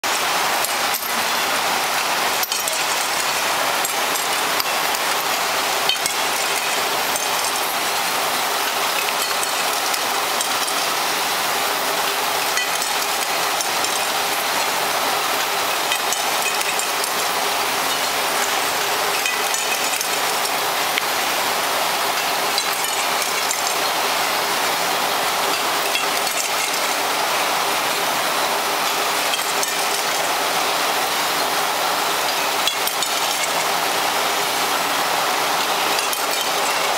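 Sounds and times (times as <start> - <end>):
gas burner flames hissing: 0.0 - 36.9
machine clicks and clinks: 0.1 - 21.2, 22.0 - 27.4, 28.4 - 34.0, 35.6 - 36.9.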